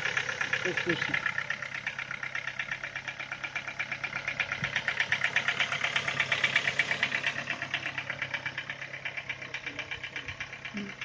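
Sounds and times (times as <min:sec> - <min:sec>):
car engine idling: 0:00.0 - 0:11.0
rapid even engine tapping: 0:00.0 - 0:11.0.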